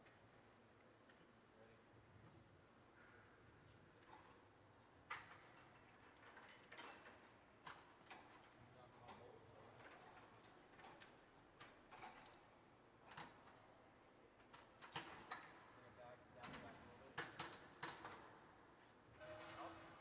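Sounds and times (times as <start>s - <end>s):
low shop room tone: 0.0s - 20.0s.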